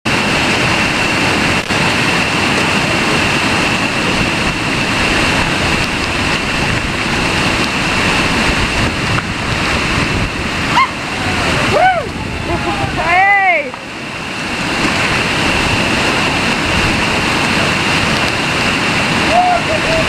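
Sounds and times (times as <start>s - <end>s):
water rushing over boulders: 0.0s - 20.0s.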